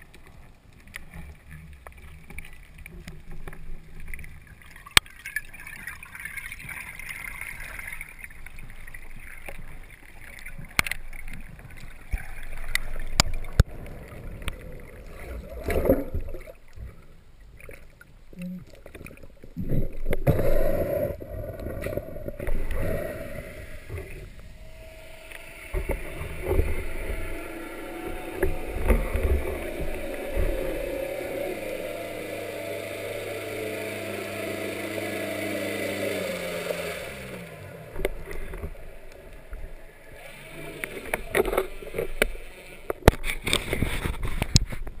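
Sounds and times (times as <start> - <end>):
motor-like hum: 0.0 - 44.6
underwater rushing: 0.0 - 45.0
splashes: 0.8 - 44.9.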